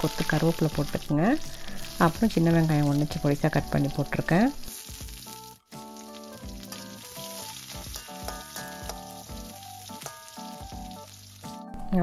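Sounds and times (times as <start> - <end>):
food sizzling in oil: 0.0 - 12.0
light background music: 0.0 - 12.0.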